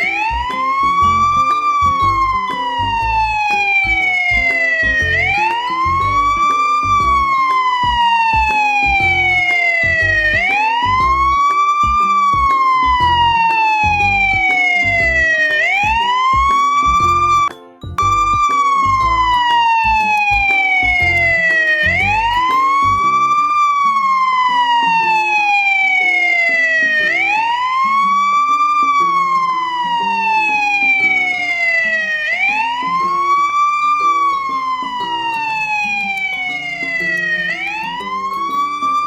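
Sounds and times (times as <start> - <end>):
siren wailing: 0.0 - 39.0.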